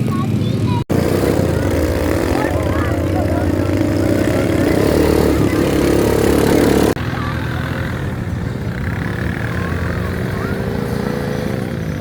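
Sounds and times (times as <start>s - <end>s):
quieter engine running: 0.0s - 12.0s
vehicle engine running: 0.0s - 12.0s.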